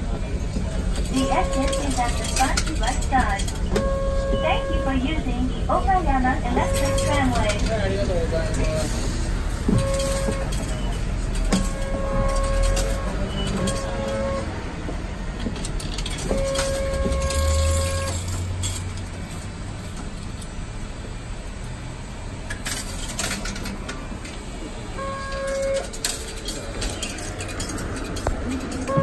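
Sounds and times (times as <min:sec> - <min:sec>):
tram motor hum: 0:00.0 - 0:29.0.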